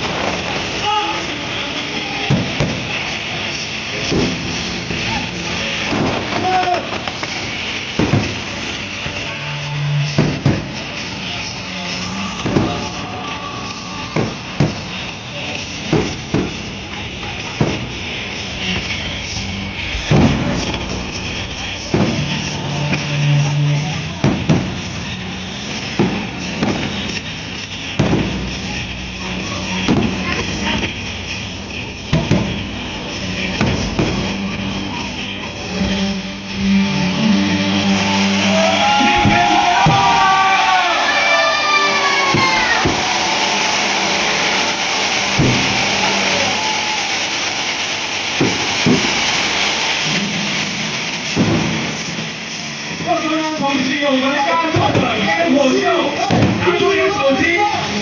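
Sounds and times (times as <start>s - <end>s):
fireworks bangs: 0.0s - 35.3s, 39.0s - 53.3s
crowd noise: 0.0s - 58.0s
music: 0.0s - 58.0s.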